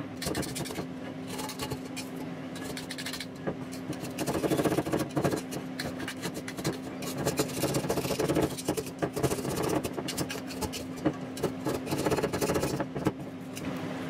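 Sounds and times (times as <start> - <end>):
utensil scraping metal bowl: 0.2 - 13.7.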